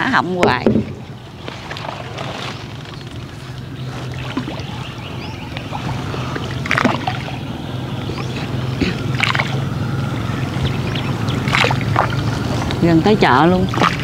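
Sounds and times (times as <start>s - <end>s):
steady low hum: 0.0s - 14.0s
oars splashing in water: 0.3s - 14.0s.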